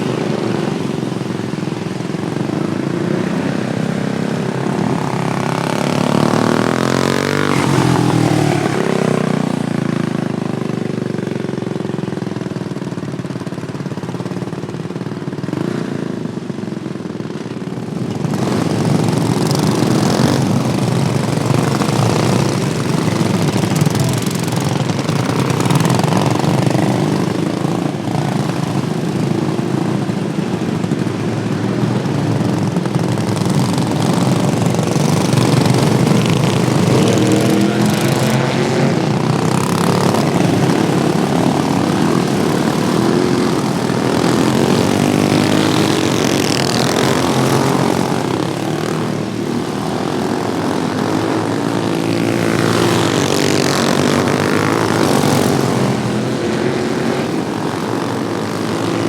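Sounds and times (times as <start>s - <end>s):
racing lawnmower engines revving: 0.0s - 59.0s.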